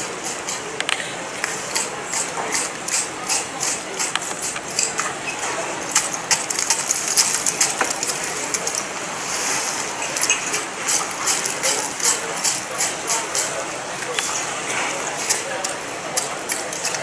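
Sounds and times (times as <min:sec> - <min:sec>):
carving tool scraping ice: 0:00.0 - 0:17.0.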